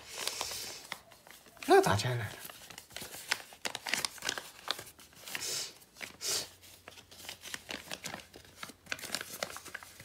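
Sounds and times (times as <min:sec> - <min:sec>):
paper crackling and rustling: 0:00.0 - 0:10.0.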